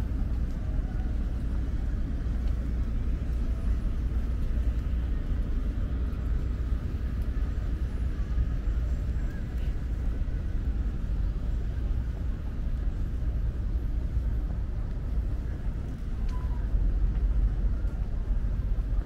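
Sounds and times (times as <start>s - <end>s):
low urban rumble: 0.0s - 19.0s.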